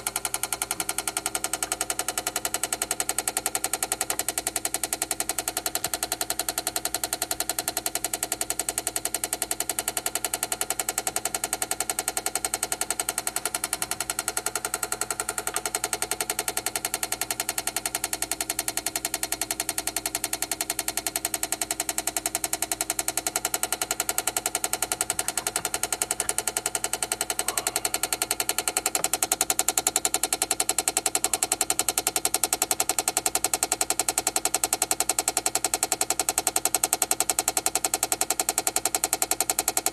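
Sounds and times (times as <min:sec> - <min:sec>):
garage door opener clicking rapidly: 0:00.0 - 0:39.9.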